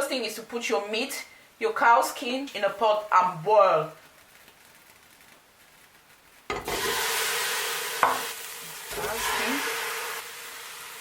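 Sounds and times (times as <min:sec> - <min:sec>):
pot sizzling: 0:01.6 - 0:11.0.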